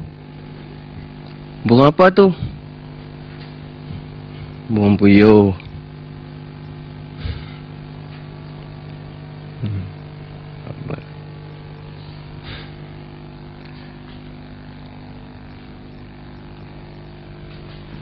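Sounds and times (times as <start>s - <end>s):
electrical hum from sound system: 0.0s - 18.0s.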